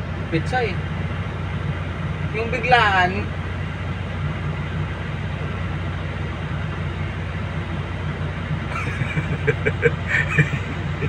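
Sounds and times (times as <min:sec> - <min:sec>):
excavator diesel engine rumbling: 0:00.0 - 0:11.0.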